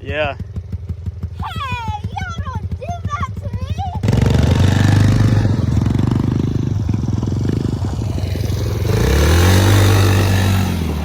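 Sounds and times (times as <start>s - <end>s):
small motorcycle engine revving: 2.1s - 11.0s.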